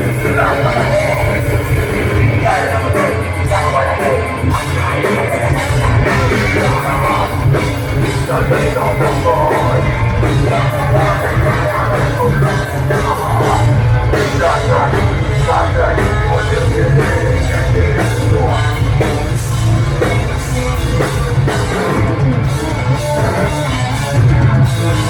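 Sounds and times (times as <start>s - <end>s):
heavy metal band playing: 0.0s - 25.0s.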